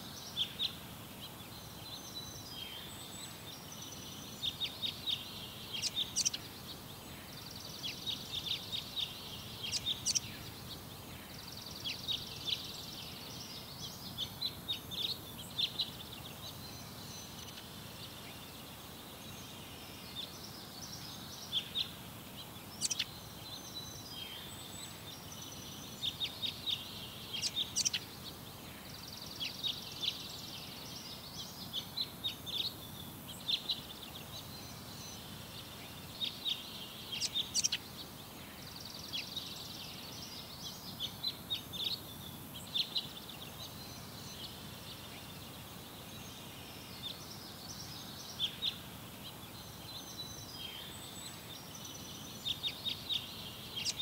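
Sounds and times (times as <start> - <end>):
low background hiss: 0.0 - 54.0
songbird chirping and trilling: 0.0 - 54.0.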